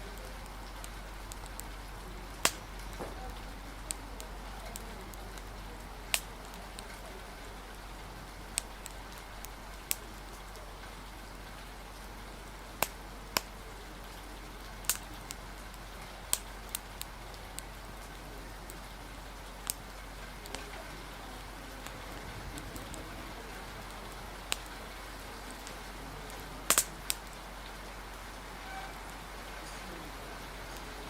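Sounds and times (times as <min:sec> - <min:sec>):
rain hiss: 0:00.0 - 0:31.0
wood fire crackling: 0:00.0 - 0:31.0.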